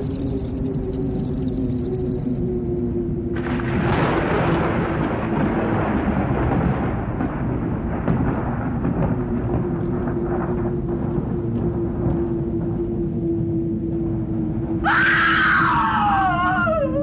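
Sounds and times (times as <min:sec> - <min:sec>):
thunder rolling: 0:00.0 - 0:16.8
low steady drone: 0:00.0 - 0:17.0.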